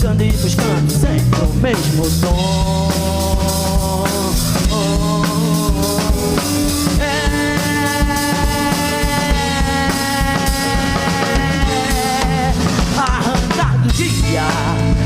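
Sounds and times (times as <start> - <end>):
high held guitar line: 0.0 - 15.0
rock band playing: 0.0 - 15.0.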